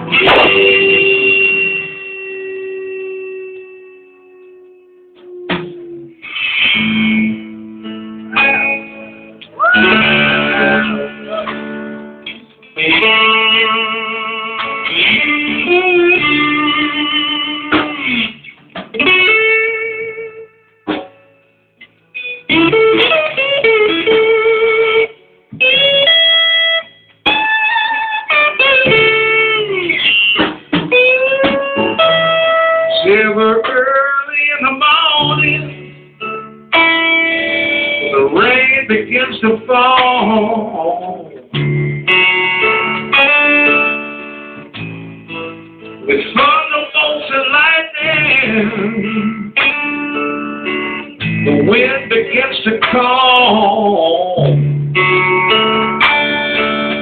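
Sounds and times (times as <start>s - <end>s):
electric blues guitar solo: 0.0s - 57.0s.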